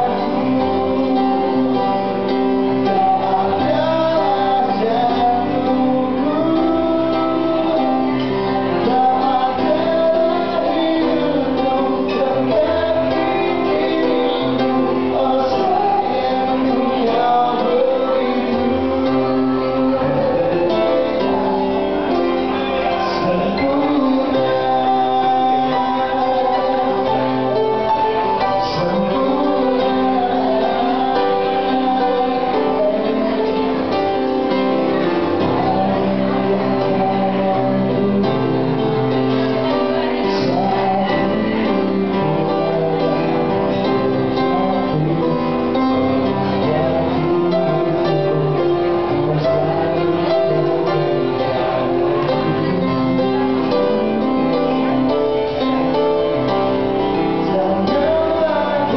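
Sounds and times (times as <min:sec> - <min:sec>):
guitar accompaniment: 0:00.0 - 0:58.9
man singing into a microphone: 0:00.0 - 0:58.9.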